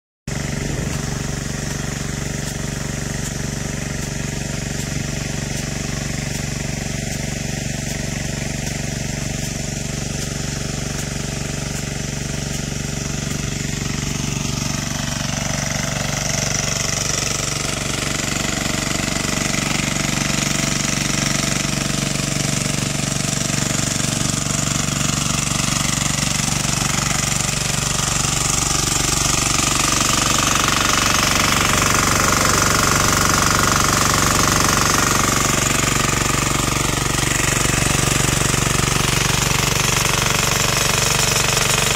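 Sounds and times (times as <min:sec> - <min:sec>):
diesel engine clattering: 0:00.3 - 0:41.9.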